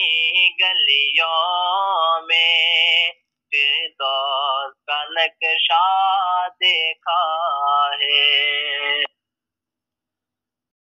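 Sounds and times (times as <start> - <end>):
man singing unaccompanied: 0.0 - 9.2.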